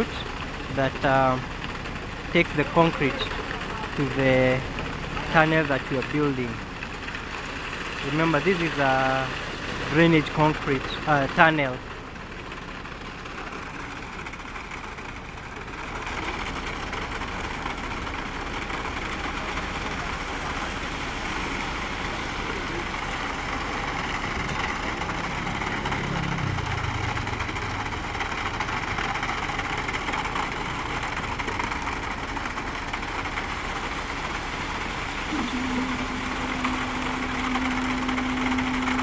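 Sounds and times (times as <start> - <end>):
mixer truck engine and drum: 0.0 - 39.0.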